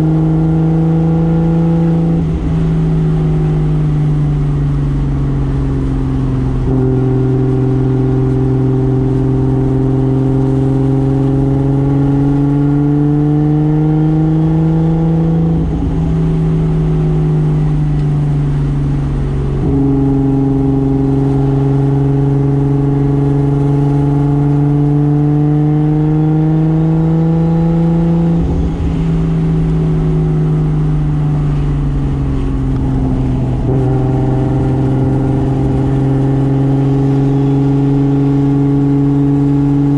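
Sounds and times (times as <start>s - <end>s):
car engine pulling under load: 0.0s - 39.9s.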